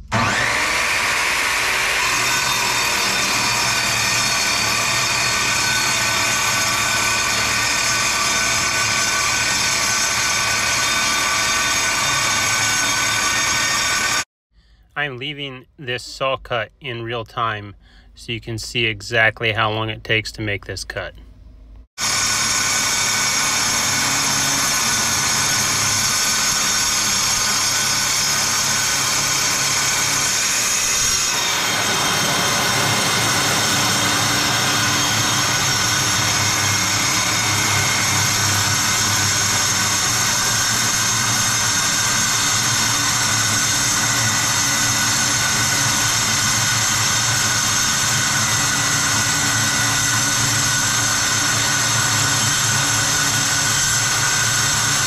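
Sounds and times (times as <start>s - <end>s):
circular saw cutting steel: 0.0s - 14.3s, 22.0s - 55.0s.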